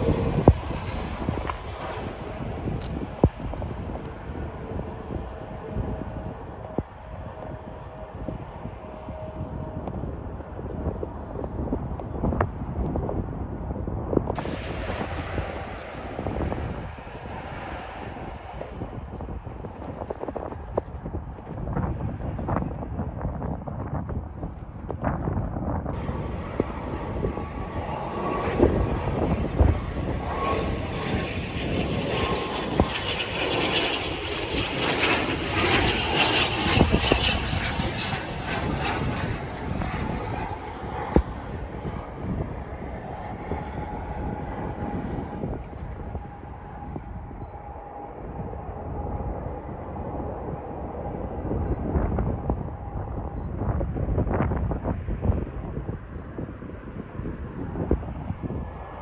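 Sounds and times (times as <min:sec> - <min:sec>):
turboprop aircraft passing low: 0:00.0 - 0:59.0.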